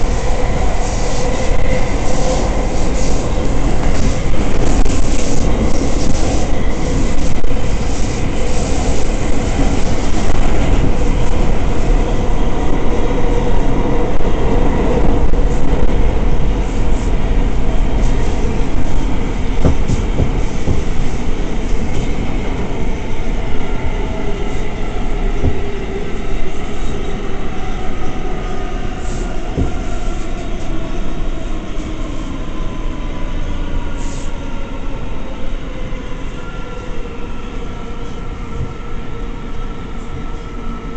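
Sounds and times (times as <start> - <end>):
subway wheels on rail: 0.0 - 40.9.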